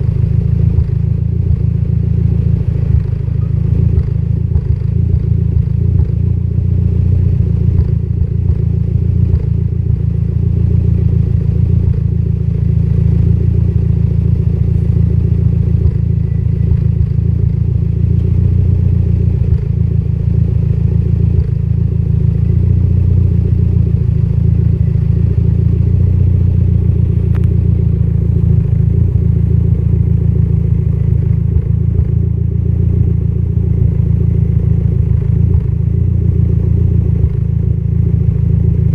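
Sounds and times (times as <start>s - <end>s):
car engine idling with misfire: 0.0s - 38.9s.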